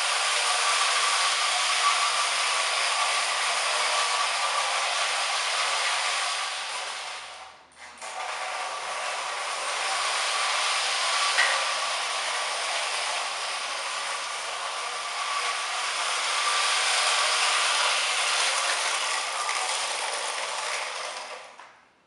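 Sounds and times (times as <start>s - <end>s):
toy train motor whirring: 0.0s - 7.4s, 8.1s - 21.5s.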